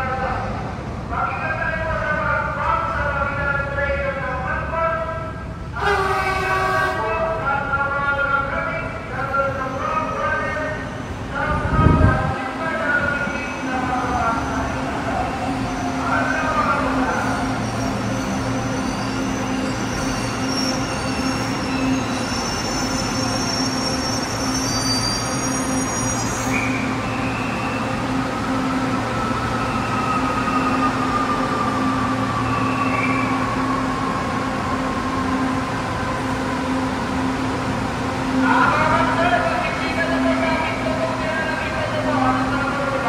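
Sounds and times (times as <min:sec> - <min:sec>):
train running noise: 0:00.0 - 0:43.0.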